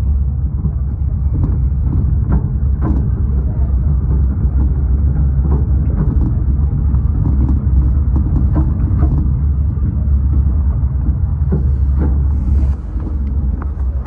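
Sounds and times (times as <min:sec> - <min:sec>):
train wheels rumbling on rails: 0:00.0 - 0:14.0
irregular clicks and knocks: 0:00.6 - 0:14.0.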